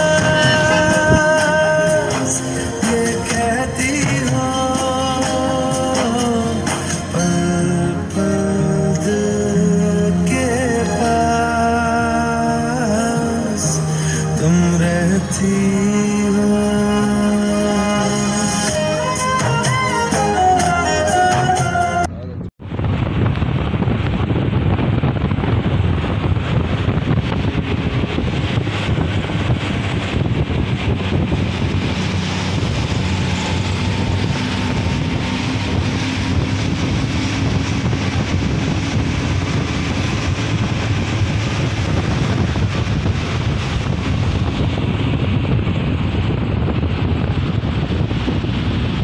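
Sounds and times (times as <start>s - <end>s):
wind buffeting microphone: 0.0s - 20.6s, 22.0s - 49.0s
road noise: 0.0s - 49.0s.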